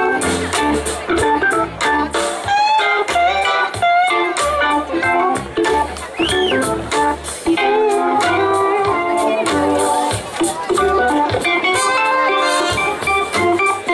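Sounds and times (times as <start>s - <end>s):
blues-rock band playing: 0.0s - 13.9s.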